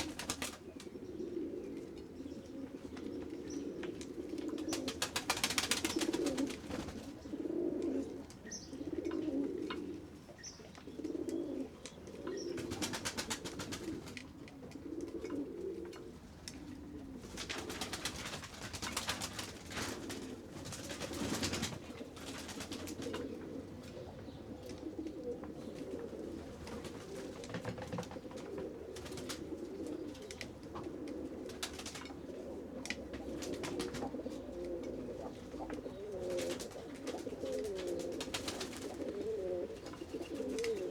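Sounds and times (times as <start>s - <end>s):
pigeons cooing: 0.0s - 40.9s.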